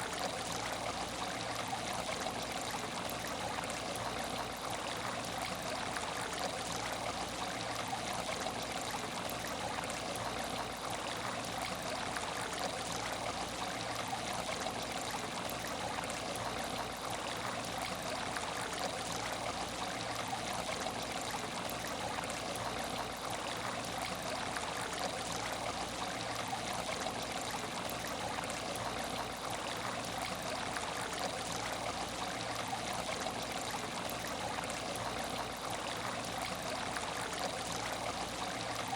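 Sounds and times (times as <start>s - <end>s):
aquarium water trickling and splashing: 0.0s - 38.9s.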